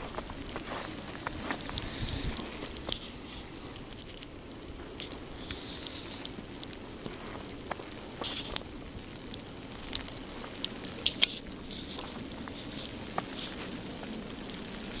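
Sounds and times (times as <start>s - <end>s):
steady hiss: 0.0s - 15.0s
wet snow pattering: 0.0s - 15.0s.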